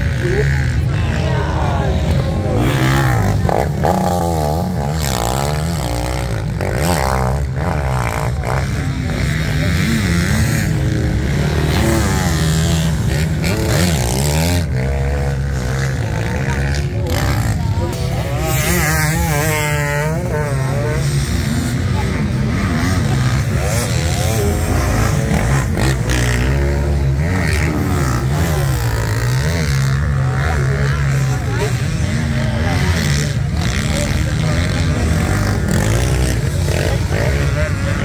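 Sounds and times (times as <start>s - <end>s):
motocross bike engines revving: 0.0s - 38.0s.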